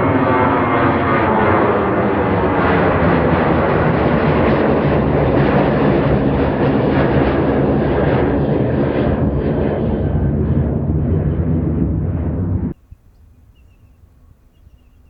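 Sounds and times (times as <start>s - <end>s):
jet engines passing close: 0.0s - 12.8s.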